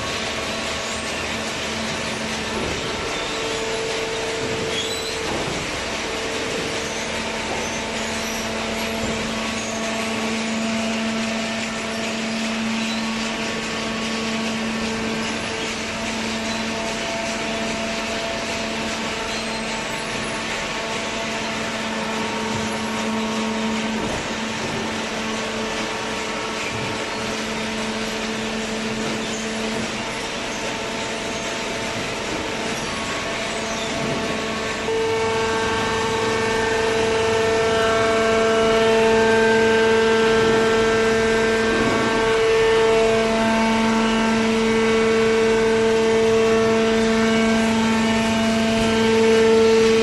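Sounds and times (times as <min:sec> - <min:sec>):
hydraulic pump motor hum: 0:00.0 - 0:50.0.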